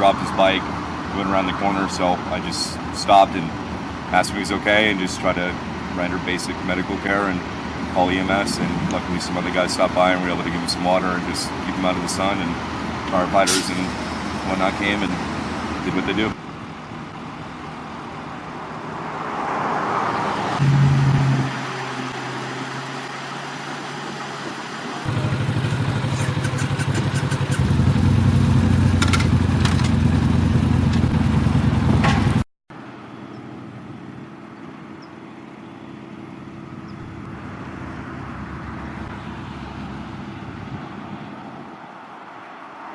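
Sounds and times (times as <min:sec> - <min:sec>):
traffic noise: 0:00.0 - 0:42.9
vehicle engine humming: 0:00.0 - 0:42.9.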